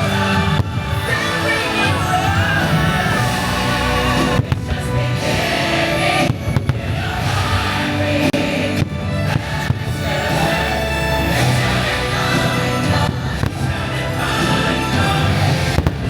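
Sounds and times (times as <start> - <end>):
loud music with singing and choir: 0.0 - 16.0.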